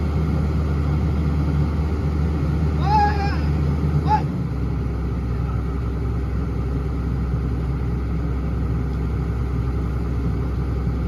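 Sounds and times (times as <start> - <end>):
excavator diesel engine droning: 0.0 - 11.0.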